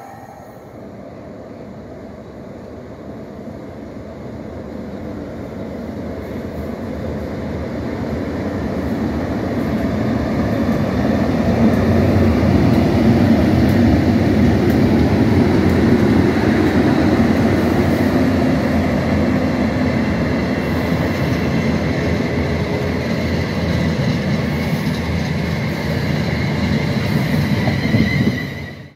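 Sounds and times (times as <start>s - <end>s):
freight train wheels rumbling on rail: 0.0s - 28.9s.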